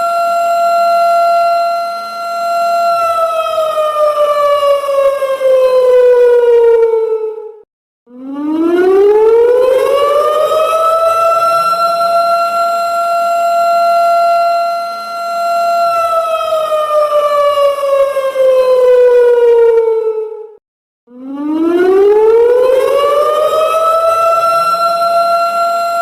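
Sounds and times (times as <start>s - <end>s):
siren wailing: 0.0s - 26.0s.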